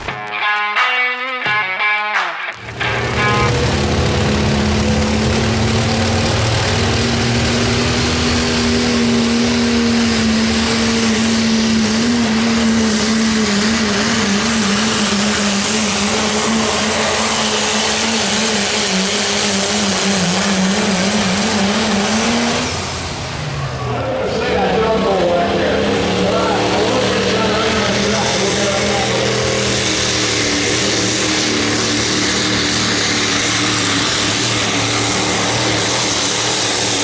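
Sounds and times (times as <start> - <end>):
diesel engine running under load: 2.5 - 37.0.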